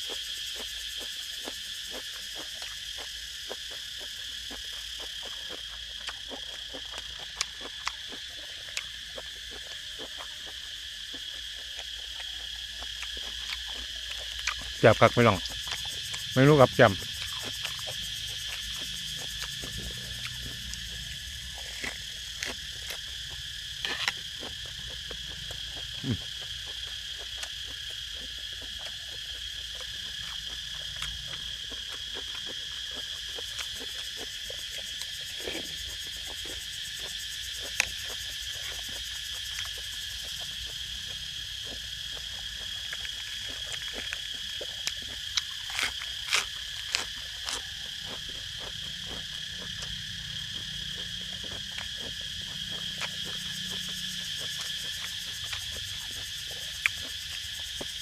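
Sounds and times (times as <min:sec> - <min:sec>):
clicks and crunches of eating: 0:00.0 - 0:58.0
crickets chirring: 0:00.0 - 0:58.0.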